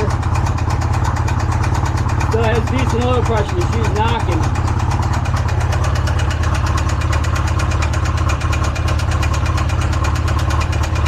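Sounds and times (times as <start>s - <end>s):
engine idling: 0.0s - 11.0s
rapid engine knock: 0.0s - 11.0s.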